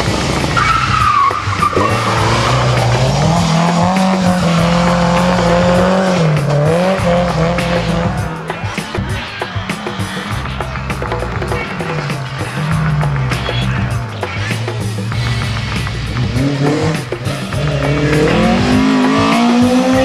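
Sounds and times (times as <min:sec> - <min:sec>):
racing car engine revving: 0:00.0 - 0:20.0
tyre squeal: 0:00.4 - 0:20.0.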